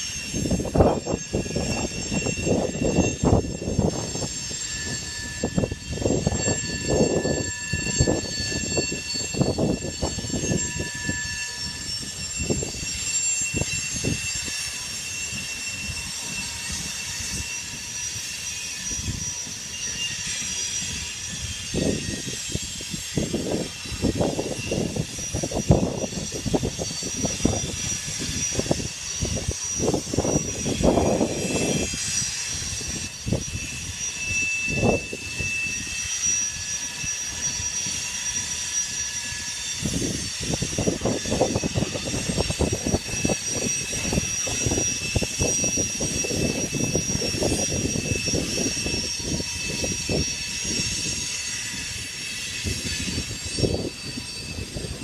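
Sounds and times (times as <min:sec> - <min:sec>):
high-pitched wheel squeal: 0:00.0 - 0:55.0.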